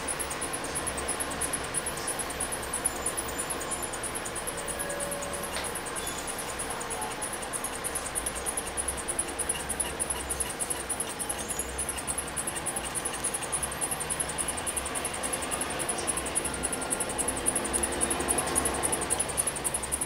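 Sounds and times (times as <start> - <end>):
fast high mechanical ticking: 0.0 - 20.0.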